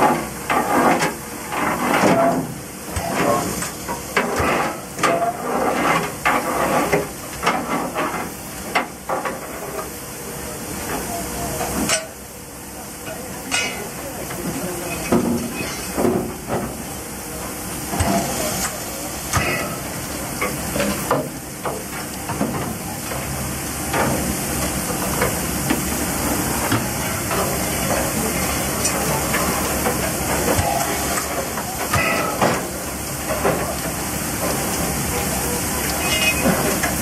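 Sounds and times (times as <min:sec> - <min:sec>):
steam hissing: 0:00.0 - 0:37.0.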